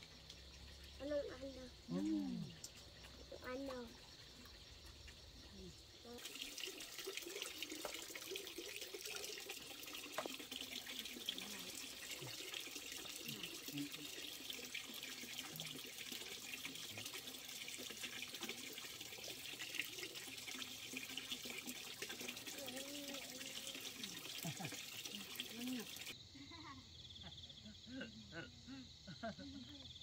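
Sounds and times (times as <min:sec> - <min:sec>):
water splashing from a tap: 0:00.0 - 0:26.2.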